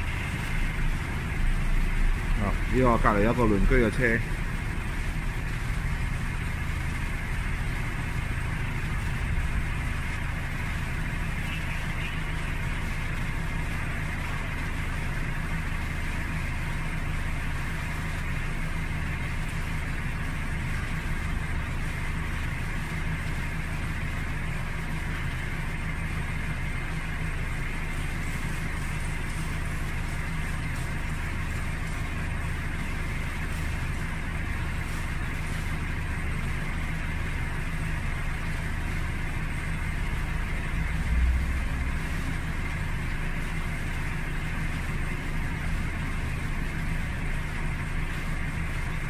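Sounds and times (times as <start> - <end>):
vehicle engine humming: 0.0 - 49.0.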